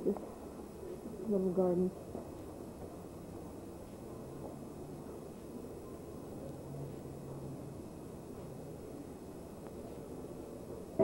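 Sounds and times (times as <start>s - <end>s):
outdoor ambience hum: 0.0s - 11.0s.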